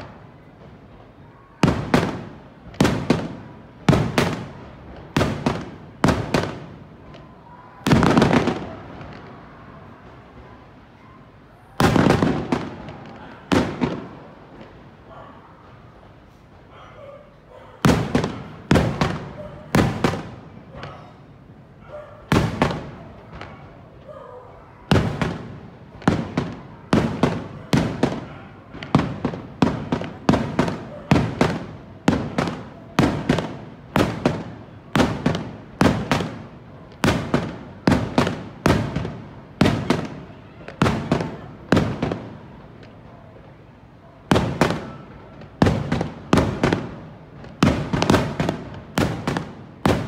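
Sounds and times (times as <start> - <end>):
fireworks bursting with sharp bangs: 0.0 - 50.0.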